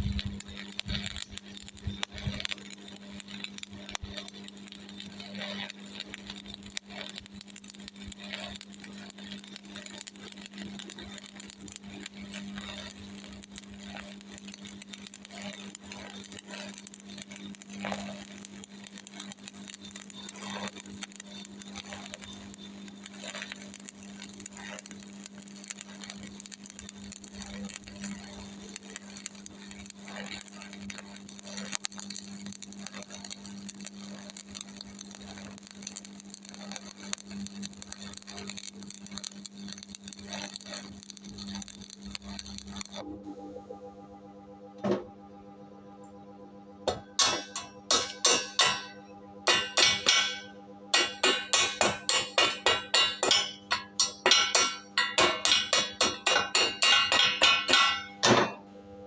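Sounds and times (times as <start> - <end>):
welding arc crackling: 0.0 - 58.6
welder steady hum: 0.0 - 59.0.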